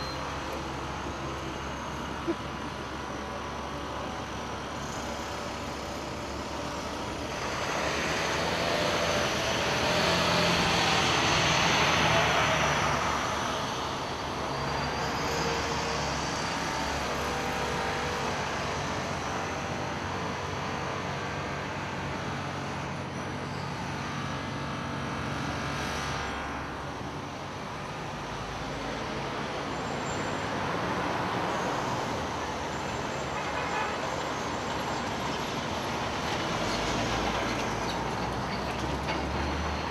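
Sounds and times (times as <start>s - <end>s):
steady rush of traffic: 0.0s - 39.9s.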